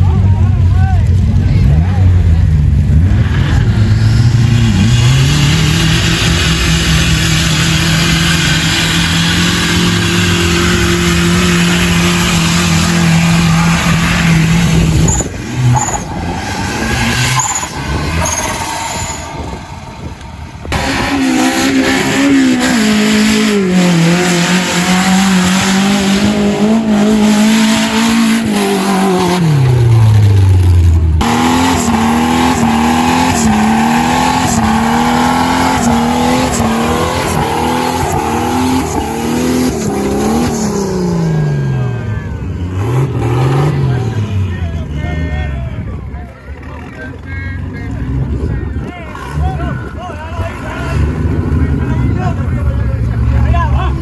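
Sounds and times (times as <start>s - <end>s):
vehicle motor revving: 1.1s - 54.0s.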